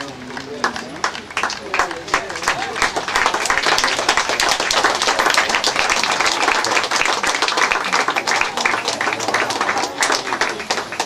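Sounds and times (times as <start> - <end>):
applause: 0.0 - 11.0.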